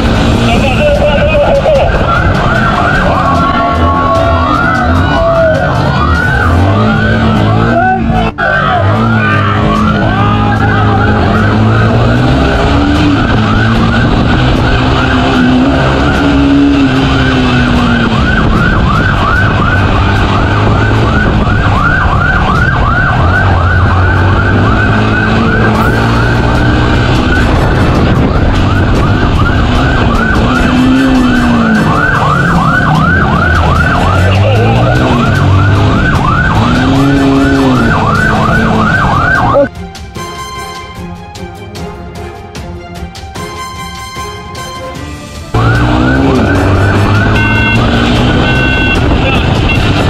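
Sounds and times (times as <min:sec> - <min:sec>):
police siren yelping: 0:00.6 - 0:39.7, 0:45.6 - 0:50.0.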